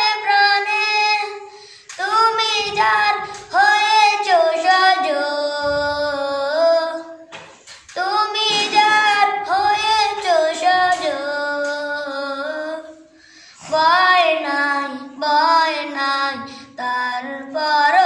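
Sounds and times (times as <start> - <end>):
boy singing unaccompanied: 0.0 - 7.3, 7.9 - 18.0.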